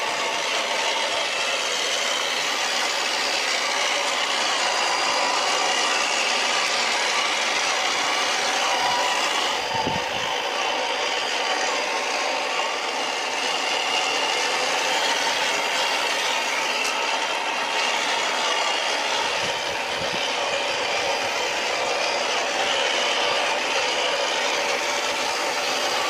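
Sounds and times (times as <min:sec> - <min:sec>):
toy car motor whining: 0:00.0 - 0:26.0.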